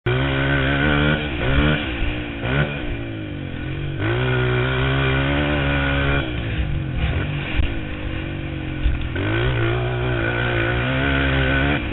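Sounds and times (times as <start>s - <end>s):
motocross bike engine revving: 0.1s - 11.9s.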